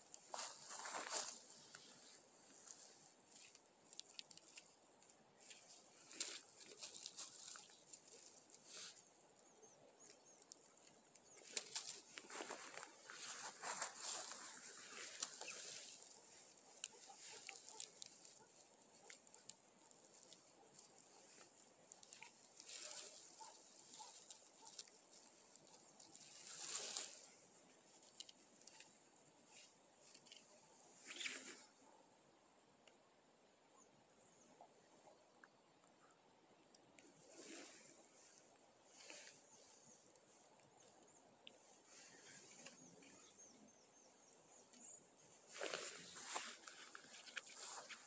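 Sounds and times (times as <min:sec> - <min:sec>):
rustling in dry grass: 0:00.0 - 0:31.9, 0:36.9 - 0:48.0.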